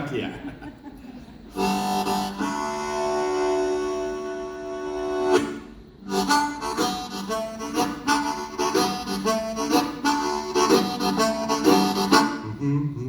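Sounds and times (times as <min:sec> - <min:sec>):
blues harmonica: 0:01.5 - 0:12.7.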